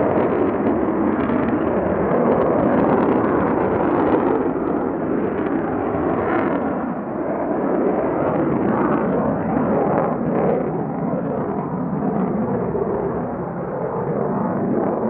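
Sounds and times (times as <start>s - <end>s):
jet roar overhead: 0.0s - 15.0s.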